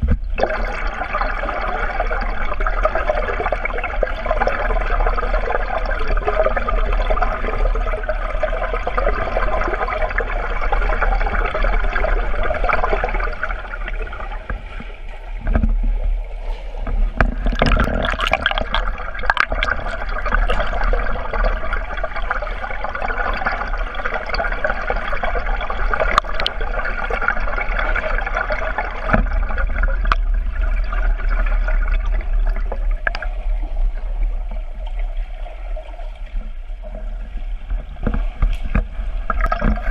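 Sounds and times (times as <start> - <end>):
sharp clicks and splashes: 0.0 - 33.9, 34.8 - 39.9
muffled underwater water wash: 0.0 - 39.9.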